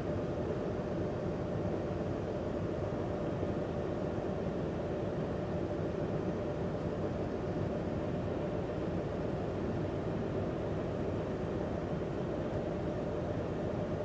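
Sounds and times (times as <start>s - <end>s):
faint constant hum: 0.0s - 14.0s.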